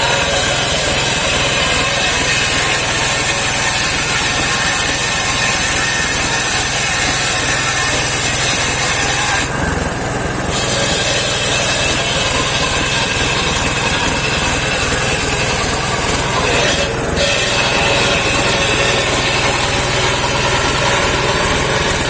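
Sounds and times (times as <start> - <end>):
circular saw cutting wood: 0.0 - 22.0
engine drone: 0.0 - 22.0.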